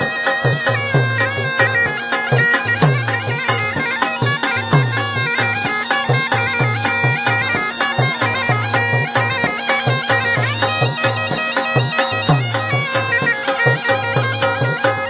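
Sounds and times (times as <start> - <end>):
bagpipes with drone: 0.0 - 15.0.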